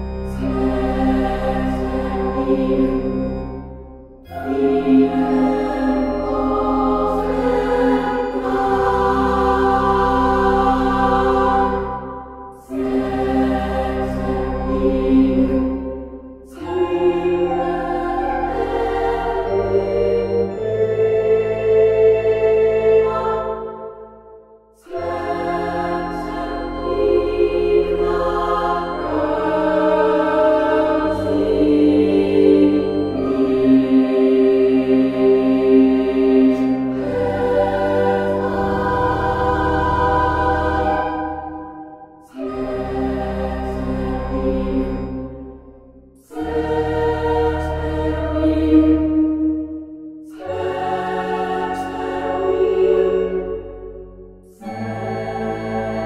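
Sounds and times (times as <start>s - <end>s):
slow sustained chant-like music: 0.0s - 56.0s.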